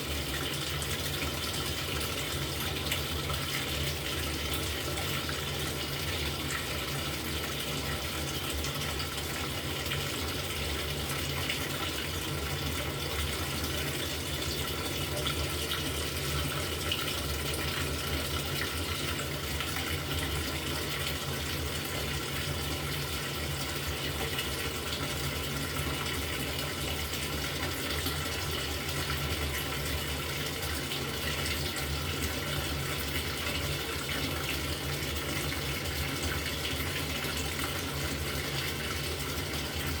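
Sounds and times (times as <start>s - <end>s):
washing machine filling with water: 0.0s - 40.0s.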